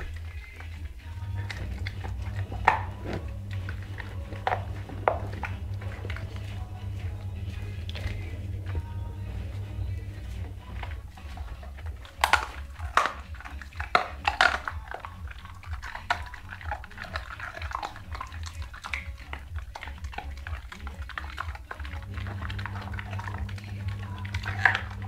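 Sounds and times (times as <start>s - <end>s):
dog chewing a bone: 0.0s - 25.0s
low hum: 0.0s - 25.0s.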